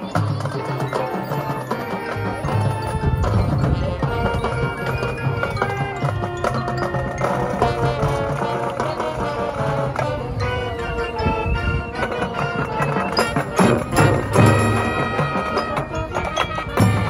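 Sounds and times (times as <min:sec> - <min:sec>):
brass chords: 0:00.0 - 0:17.0
mallet keyboard notes: 0:00.0 - 0:17.0
percussion: 0:00.0 - 0:17.0.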